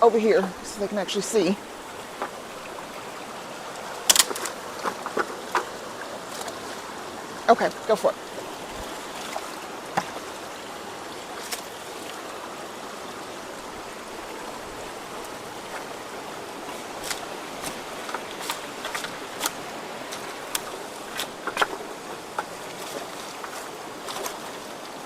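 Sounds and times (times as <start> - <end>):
water rushing through culvert: 0.0 - 25.0.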